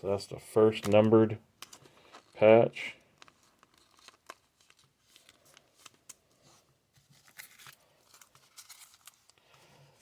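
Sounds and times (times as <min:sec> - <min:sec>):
cards rustling: 0:00.4 - 0:10.0.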